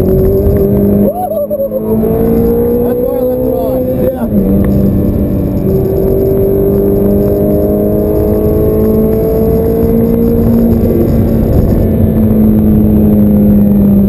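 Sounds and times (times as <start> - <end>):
car engine revving in cabin: 0.0 - 14.0.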